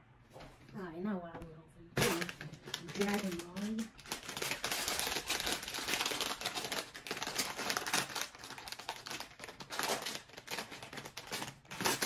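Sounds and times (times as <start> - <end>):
plastic pouch crinkling: 2.0 - 12.0.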